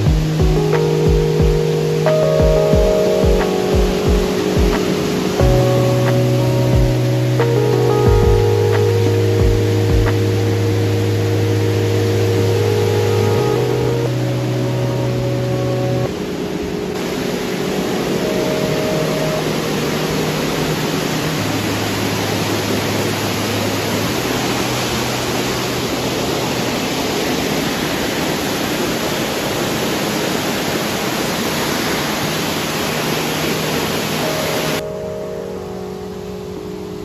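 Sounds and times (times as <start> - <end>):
rushing water: 0.0 - 37.0
soft background music: 0.0 - 37.0.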